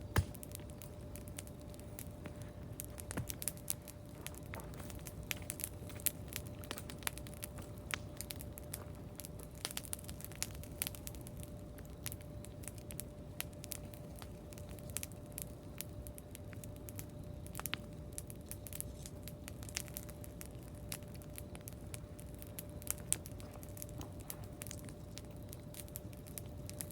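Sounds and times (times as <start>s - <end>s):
burning wood popping: 0.0s - 26.9s
campfire crackling: 0.0s - 26.9s.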